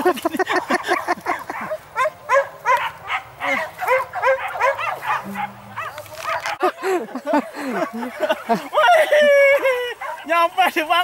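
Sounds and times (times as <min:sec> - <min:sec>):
dogs barking and yelping: 0:00.4 - 0:10.4.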